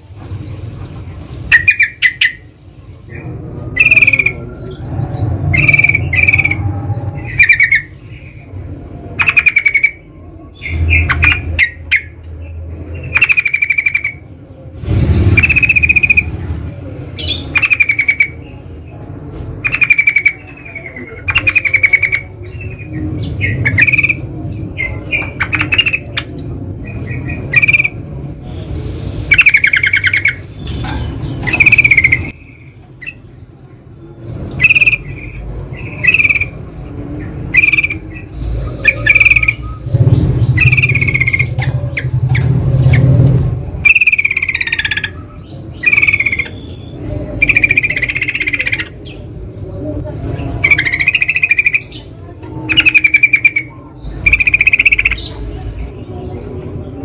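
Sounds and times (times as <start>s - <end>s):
birds chattering calls: 0.0s - 57.0s.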